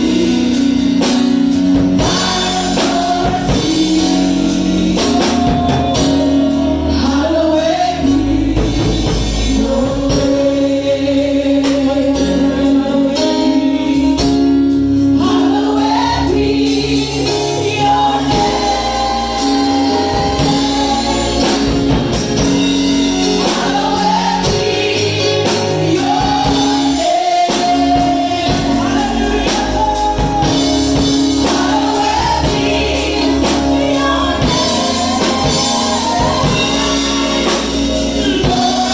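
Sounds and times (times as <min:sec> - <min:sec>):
band playing chords and bass: 0:00.0 - 0:38.9
singers carrying a melody: 0:00.0 - 0:38.9.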